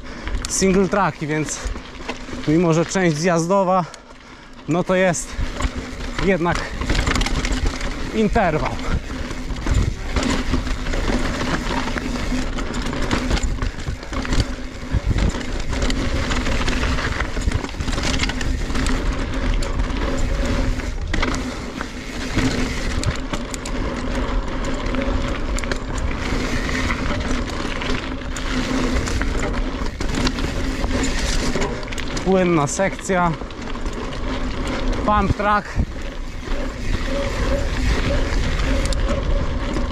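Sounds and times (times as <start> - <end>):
bike tyres crunching over ground: 0.0 - 39.9
bike knocks and rattles: 4.6 - 39.9.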